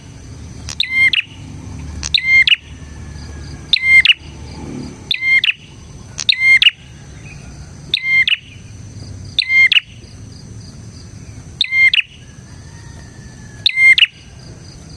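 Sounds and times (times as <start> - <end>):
bird singing rapid sharp chirps: 0.0 - 14.9.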